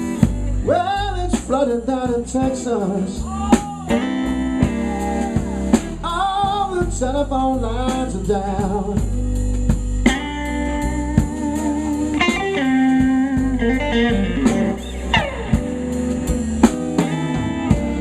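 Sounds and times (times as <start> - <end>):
electric guitar lead: 0.0 - 6.9, 8.7 - 18.0
bass: 0.0 - 18.0
drums: 0.0 - 18.0.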